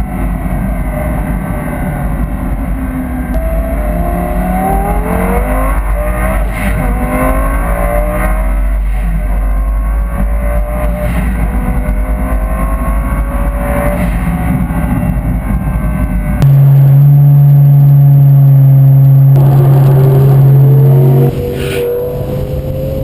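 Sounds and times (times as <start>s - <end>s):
sports car engine accelerating: 0.0s - 23.0s.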